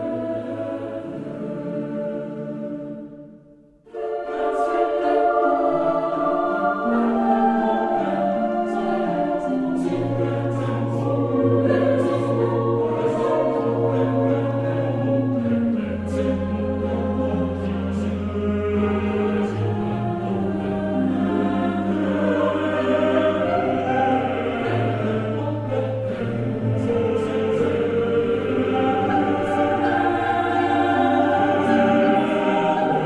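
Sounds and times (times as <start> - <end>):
background music: 0.0 - 33.0.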